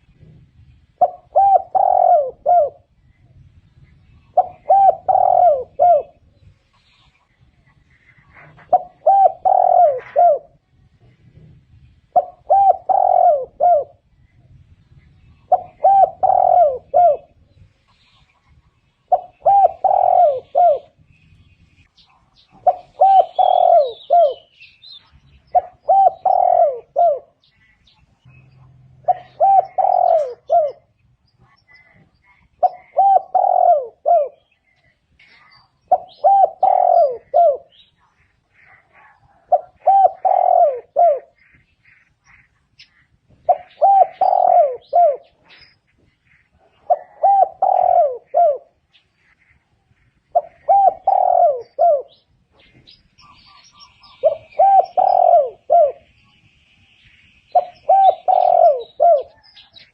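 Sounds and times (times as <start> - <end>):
dove cooing: 0.0 - 3.2, 4.0 - 6.8, 8.2 - 10.6, 11.3 - 14.4, 15.1 - 17.6, 18.5 - 21.1, 22.1 - 27.6, 28.5 - 41.6, 42.3 - 56.1, 57.5 - 59.9.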